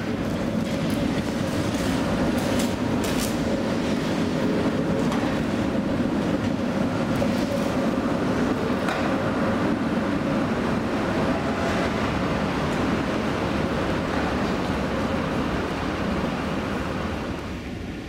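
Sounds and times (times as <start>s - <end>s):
tram wheels rumbling: 0.0s - 18.0s.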